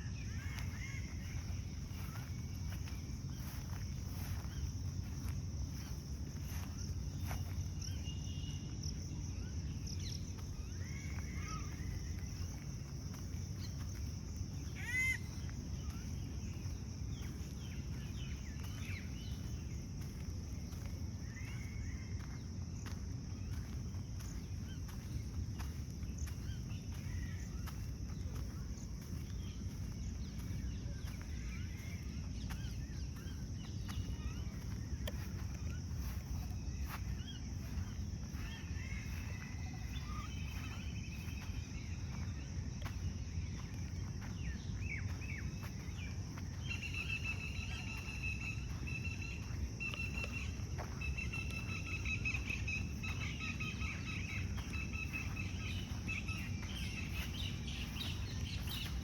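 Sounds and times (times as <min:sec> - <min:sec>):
birds chirping: 0:00.0 - 0:59.0
rapidly repeated chirping call: 0:00.0 - 0:59.0.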